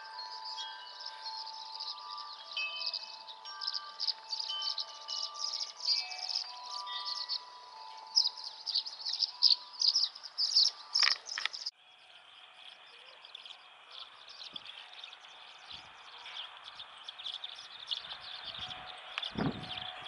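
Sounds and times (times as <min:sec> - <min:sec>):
swallows twittering: 0:00.0 - 0:20.0.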